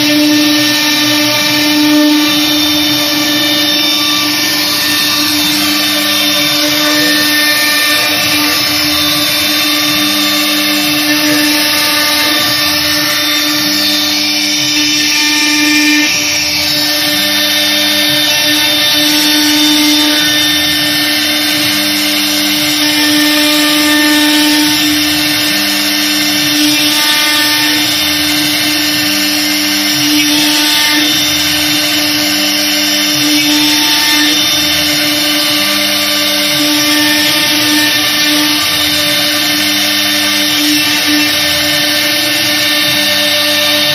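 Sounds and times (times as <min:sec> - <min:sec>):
router spindle whine: 0:00.0 - 0:43.9.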